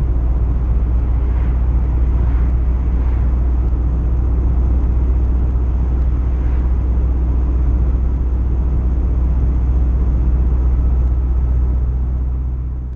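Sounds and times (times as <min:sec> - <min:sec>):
car engine running steadily: 0:00.0 - 0:12.9.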